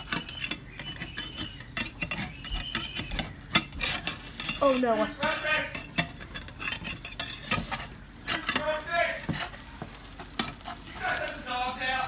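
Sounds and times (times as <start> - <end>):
omelet sizzling: 0.0 - 12.0
utensil scraping frying pan: 0.0 - 12.0.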